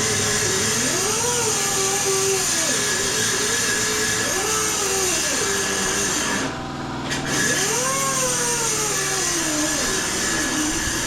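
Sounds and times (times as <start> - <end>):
power tool motor whine: 0.0 - 11.0.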